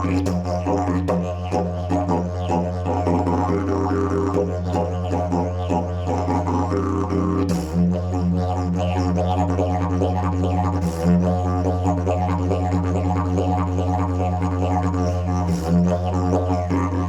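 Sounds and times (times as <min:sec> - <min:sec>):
didgeridoo drone: 0:00.0 - 0:17.0.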